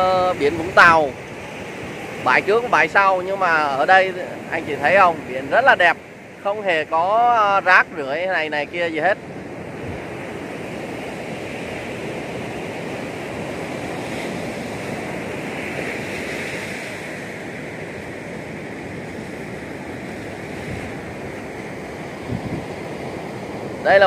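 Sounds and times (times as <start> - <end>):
waves breaking on beach: 0.0 - 24.0
wind rumbling on microphone: 0.0 - 24.0.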